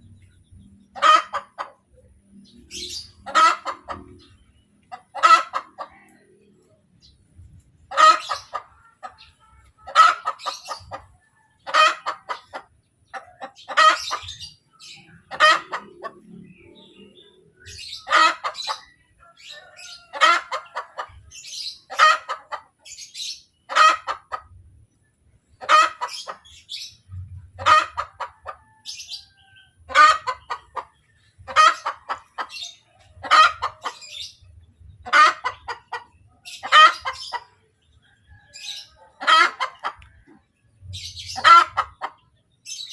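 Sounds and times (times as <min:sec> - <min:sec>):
hen cackling: 0:00.0 - 0:07.1, 0:07.8 - 0:24.6, 0:25.6 - 0:34.4, 0:35.0 - 0:37.6, 0:38.4 - 0:42.9.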